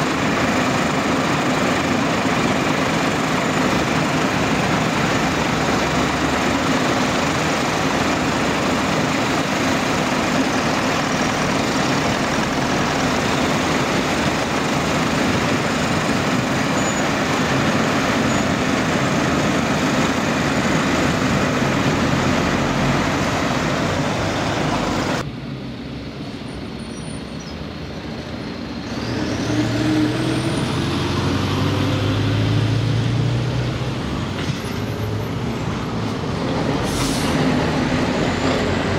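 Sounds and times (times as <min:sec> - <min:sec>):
lorry diesel engine revving: 0:00.0 - 0:25.3, 0:28.1 - 0:38.9
paver diesel engine and machinery: 0:00.0 - 0:38.9.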